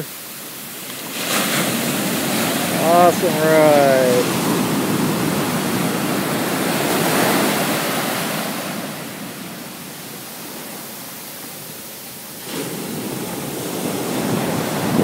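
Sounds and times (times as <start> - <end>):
ocean surf rushing through shallows: 0.0 - 15.0.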